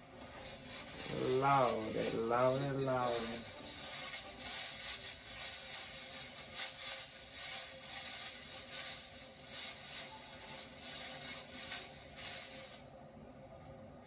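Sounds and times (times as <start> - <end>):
gift box rustling: 0.4 - 12.8.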